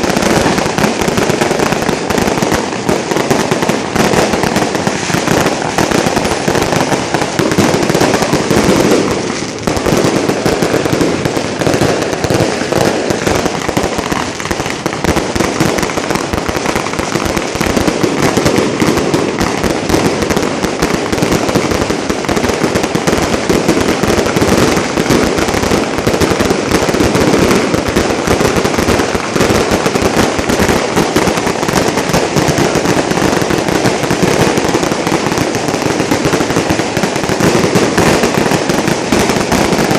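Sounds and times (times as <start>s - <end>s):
firecracker bangs and crackles: 0.0s - 39.9s.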